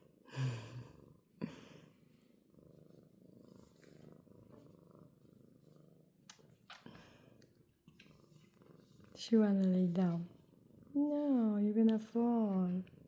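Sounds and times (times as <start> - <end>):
kitten purring: 0.1 - 13.0.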